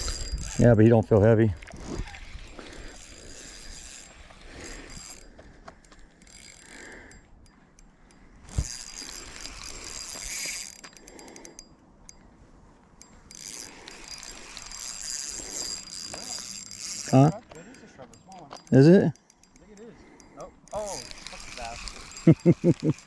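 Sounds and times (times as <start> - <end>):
fishing reel clicking: 0.0 - 12.3, 13.0 - 23.0.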